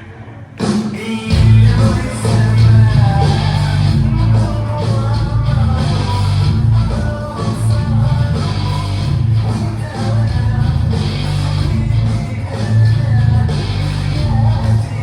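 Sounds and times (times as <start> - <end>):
person singing: 0.0 - 15.0
live rock band: 0.6 - 15.0.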